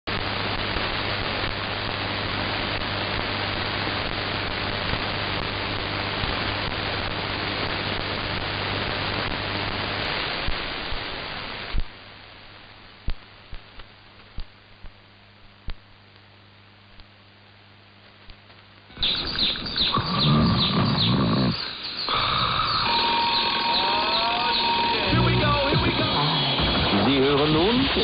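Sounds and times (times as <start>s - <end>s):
static crackles: 0.0s - 28.0s
low hum: 0.1s - 28.0s
radio static hiss: 0.1s - 28.0s.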